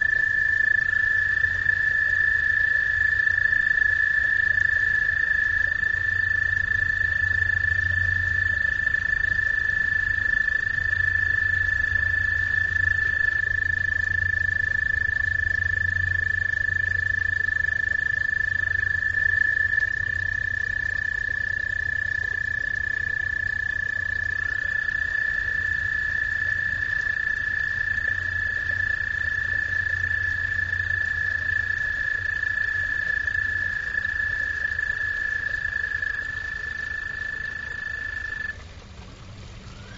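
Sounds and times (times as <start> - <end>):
frogs trilling: 0.0 - 39.9.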